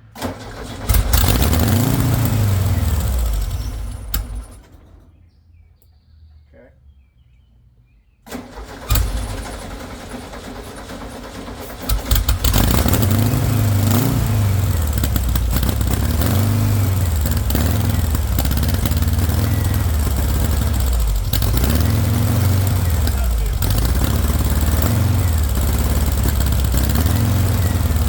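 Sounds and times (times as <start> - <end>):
engine cranking and revving: 0.0 - 5.0, 8.3 - 28.0.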